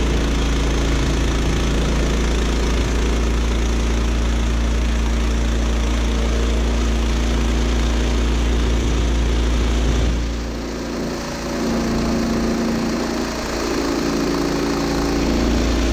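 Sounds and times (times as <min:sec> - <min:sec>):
band saw cutting log: 0:00.0 - 0:15.9
gas engine running: 0:00.0 - 0:15.9.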